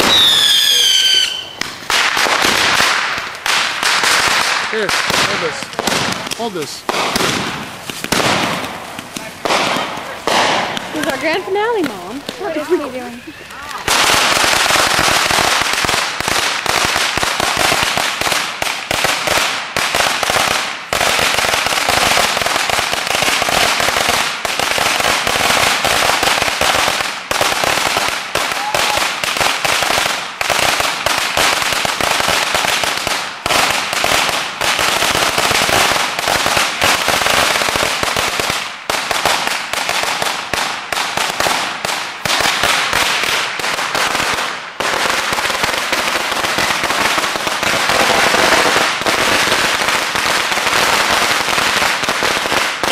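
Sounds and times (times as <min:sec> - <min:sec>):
fireworks banging and crackling: 0:00.0 - 0:52.9.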